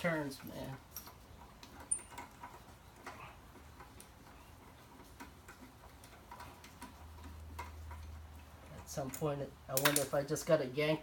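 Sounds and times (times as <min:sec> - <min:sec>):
small metallic ticks and clicks: 0:00.0 - 0:10.6.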